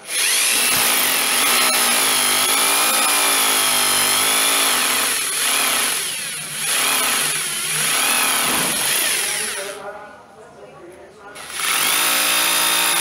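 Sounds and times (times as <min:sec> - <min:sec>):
hammer drill drilling into wall: 0:00.0 - 0:09.8, 0:11.4 - 0:13.0.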